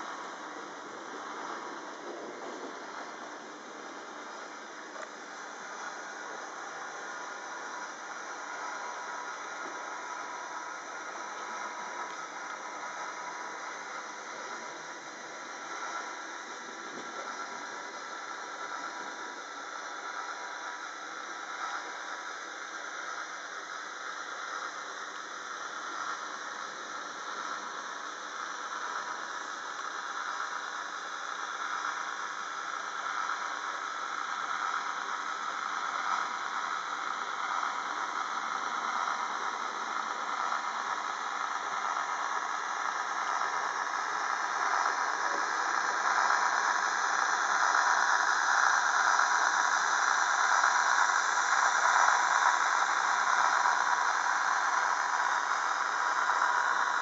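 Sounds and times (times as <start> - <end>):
model train rolling on track: 0.0 - 57.0.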